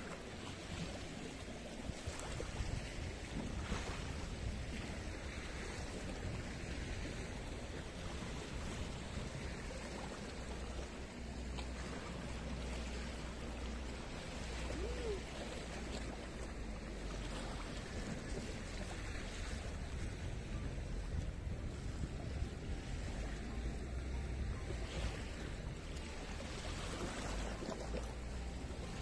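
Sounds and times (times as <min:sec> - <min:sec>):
sea surf washing ashore: 0:00.0 - 0:29.0
wind rumble on microphone: 0:00.0 - 0:29.0.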